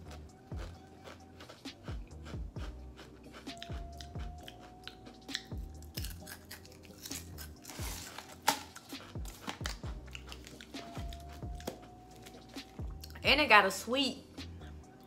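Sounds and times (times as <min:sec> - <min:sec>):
potato chips crunched and chewed: 0:00.0 - 0:02.4, 0:03.0 - 0:13.2
background music with beat: 0:00.0 - 0:15.0.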